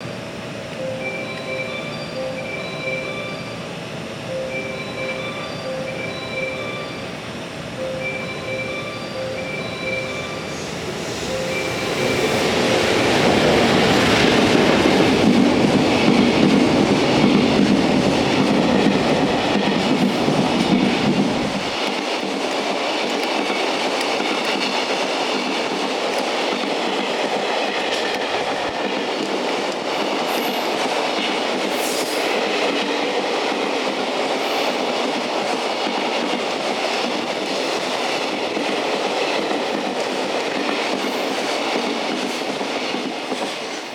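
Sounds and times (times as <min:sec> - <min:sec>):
wheels clacking on rails: 0:07.8 - 0:43.9.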